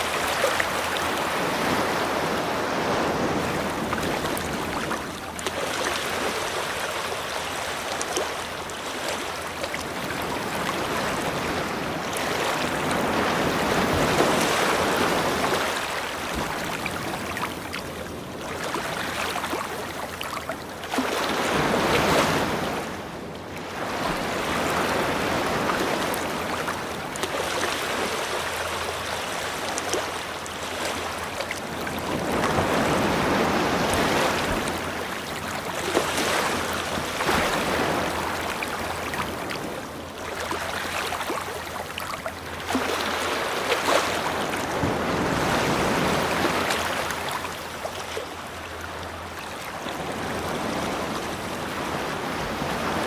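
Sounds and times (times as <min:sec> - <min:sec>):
ocean surf washing onto beach: 0:00.0 - 0:53.0.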